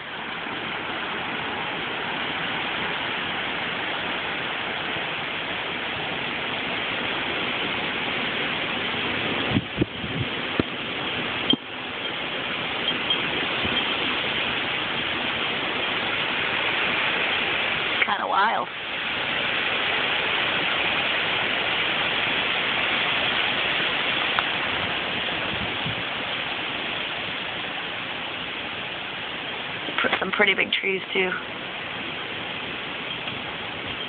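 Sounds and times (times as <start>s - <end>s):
heavy rain: 0.0s - 34.0s
hurricane wind: 0.0s - 34.0s.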